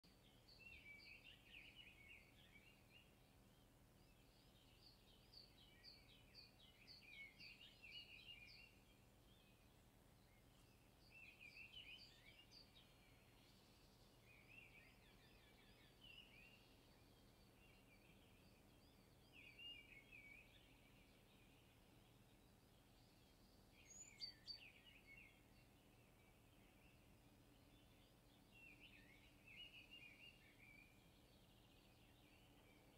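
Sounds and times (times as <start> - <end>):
faint birdsong: 0.0 - 32.9.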